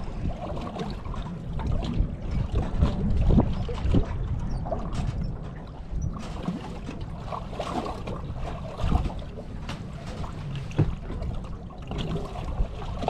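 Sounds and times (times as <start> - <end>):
waves slapping boat hull: 0.0 - 13.0
wind buffeting microphone: 0.0 - 13.0.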